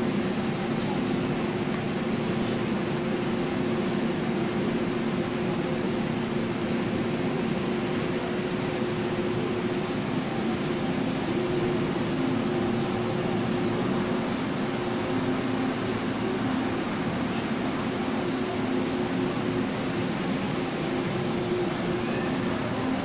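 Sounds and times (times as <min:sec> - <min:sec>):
train rolling past echoing: 0:00.0 - 0:23.0.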